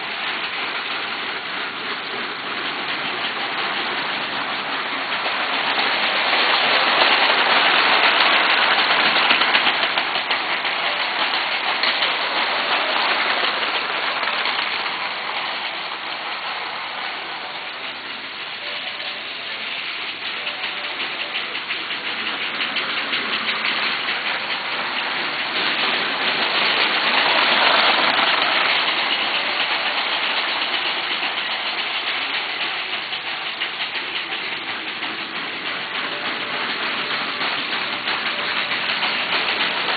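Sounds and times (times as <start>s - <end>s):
toy train motors whirring: 0.0s - 39.9s
wheels clicking over plastic track: 0.0s - 39.9s.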